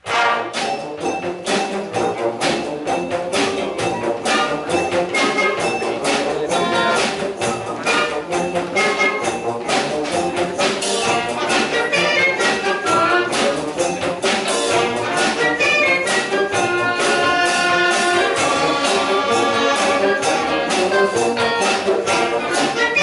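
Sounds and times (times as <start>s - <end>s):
wind band playing: 0.0s - 23.0s.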